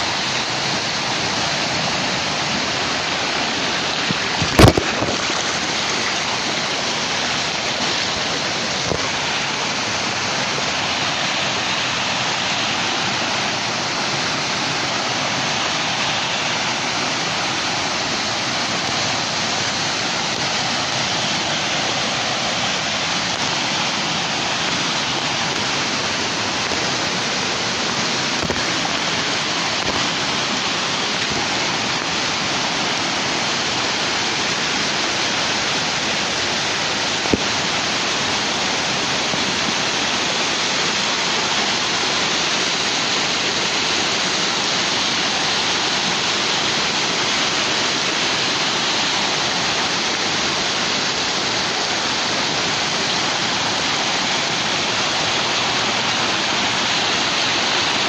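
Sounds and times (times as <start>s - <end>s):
waterfall splashing into stream: 0.0s - 58.0s.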